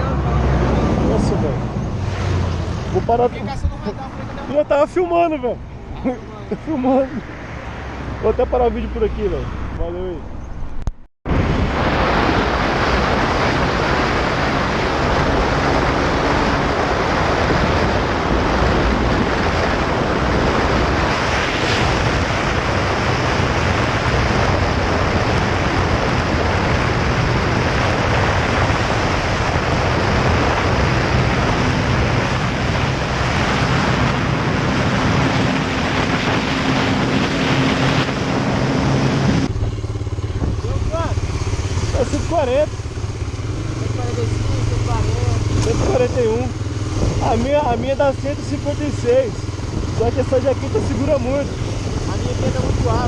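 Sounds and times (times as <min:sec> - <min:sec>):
motorcycle engine drone: 0:00.0 - 0:53.0
wind roar on microphone: 0:00.0 - 0:53.0.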